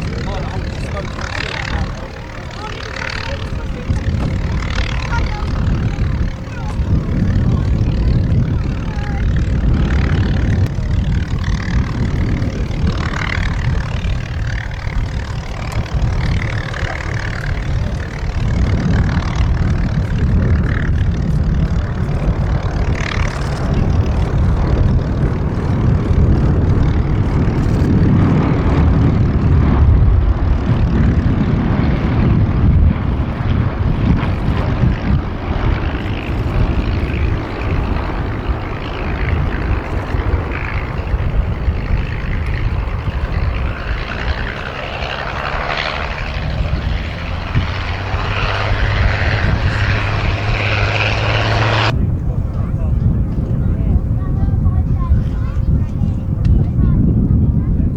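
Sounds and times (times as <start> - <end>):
propeller aircraft engines droning: 0.0 - 57.9.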